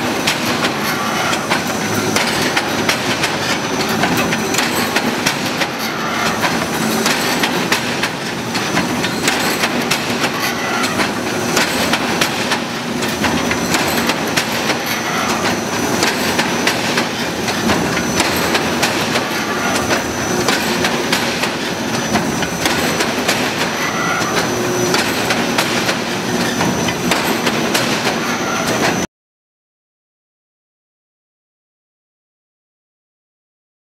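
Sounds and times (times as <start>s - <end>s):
machine metallic clatter: 0.0s - 29.1s.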